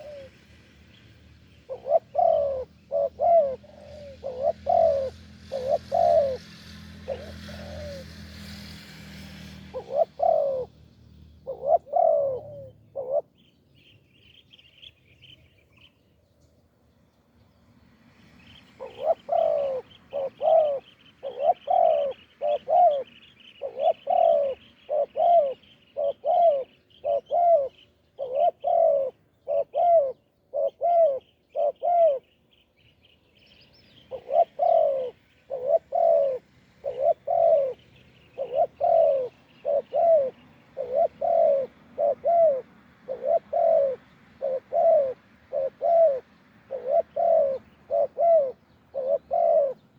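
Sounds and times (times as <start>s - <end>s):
dove cooing: 0.0s - 0.4s, 1.6s - 8.7s, 9.4s - 10.8s, 11.4s - 13.4s, 18.7s - 32.3s, 34.0s - 49.9s
small birds chirping: 9.8s - 49.9s.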